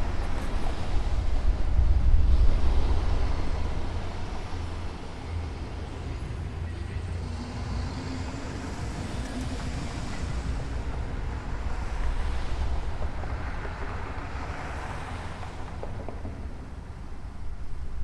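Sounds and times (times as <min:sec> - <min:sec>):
road and engine rumble: 0:00.0 - 0:18.0
wind hiss: 0:00.0 - 0:18.0.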